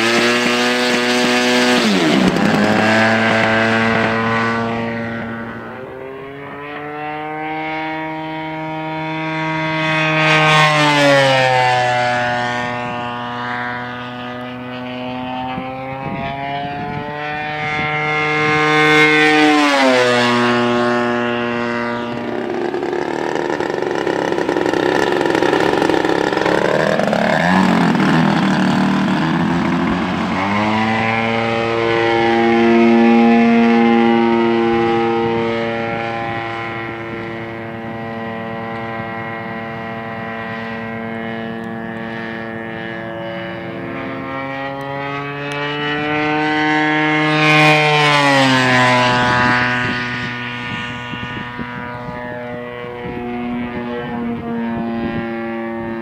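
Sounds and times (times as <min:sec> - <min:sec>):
model plane engine: 0:00.0 - 0:56.0.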